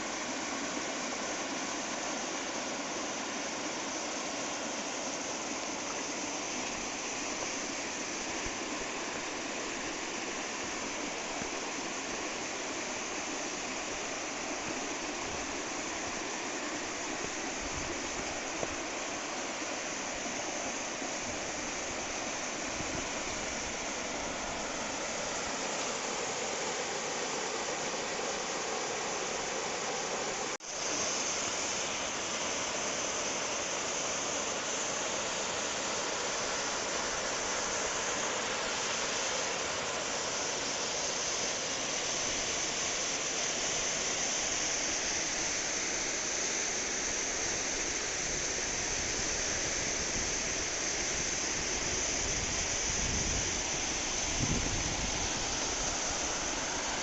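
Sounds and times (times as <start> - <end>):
stream water rushing over rock: 0.0 - 57.0.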